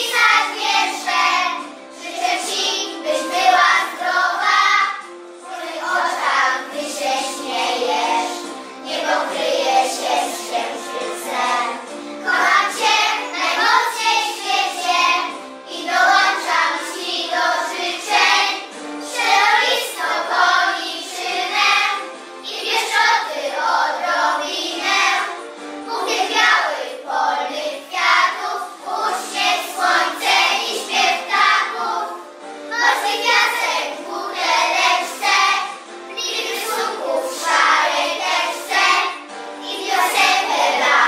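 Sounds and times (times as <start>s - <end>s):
children singing: 0.0s - 41.0s
instrumental backing music: 0.0s - 41.0s.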